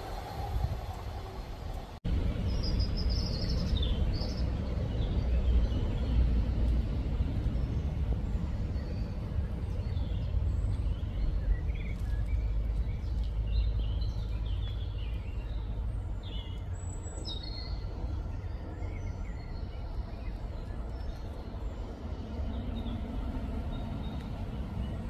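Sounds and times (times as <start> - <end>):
steady low rumble: 0.0 - 25.0
songbirds chirping: 0.9 - 25.0.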